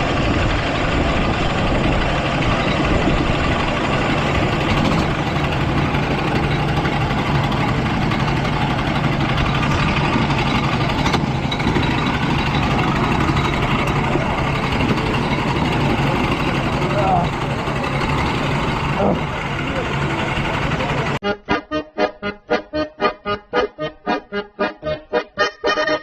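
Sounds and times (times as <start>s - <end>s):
go-kart engine running: 0.0s - 21.2s.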